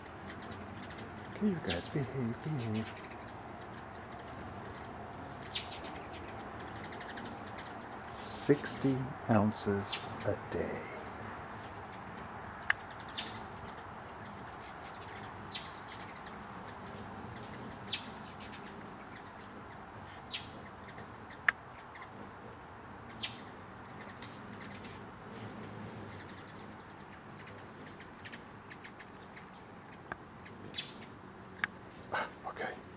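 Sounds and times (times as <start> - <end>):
background hiss: 0.0 - 32.9
hummingbird chip calls: 0.2 - 22.2, 23.1 - 32.9.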